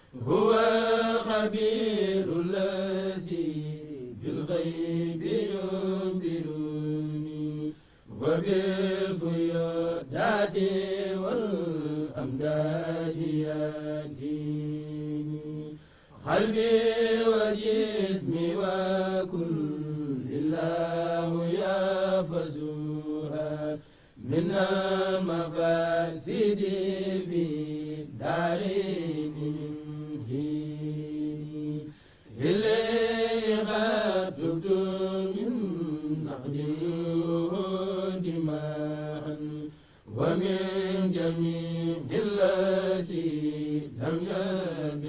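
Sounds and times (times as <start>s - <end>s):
men chanting: 0.2s - 45.0s.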